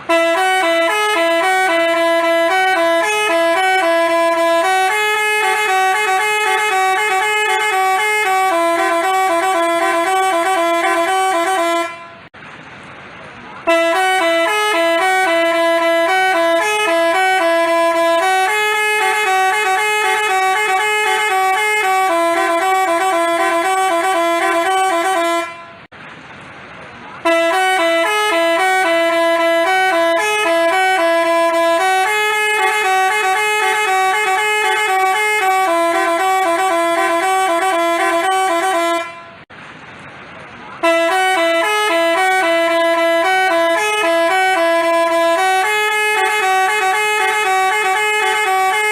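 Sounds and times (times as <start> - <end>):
bus horn playing melody: 0.0 - 12.4, 13.6 - 25.9, 27.2 - 39.5, 40.8 - 48.9.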